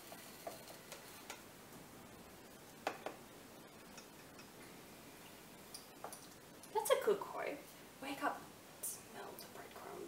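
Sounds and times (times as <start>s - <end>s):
room hiss: 0.0s - 10.0s.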